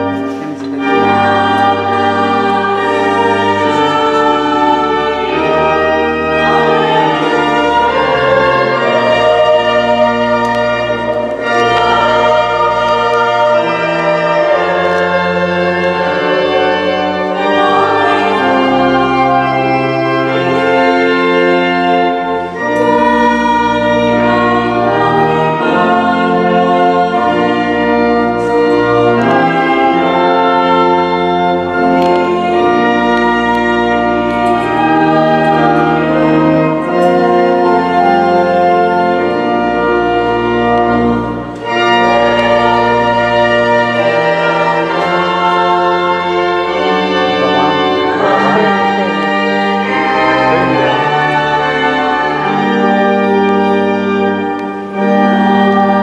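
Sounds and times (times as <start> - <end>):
organ playing held chords: 0.0 - 56.0.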